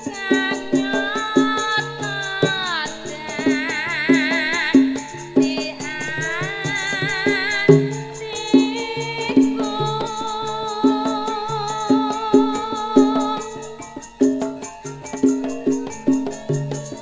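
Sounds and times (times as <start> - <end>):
gamelan playing: 0.0 - 17.0
woman singing with vibrato: 0.0 - 17.0.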